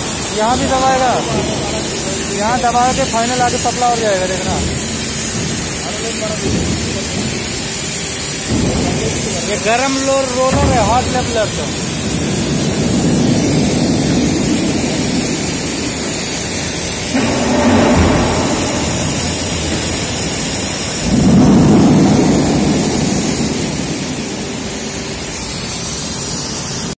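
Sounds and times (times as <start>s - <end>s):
steel mill machinery rumbling: 0.0s - 27.0s.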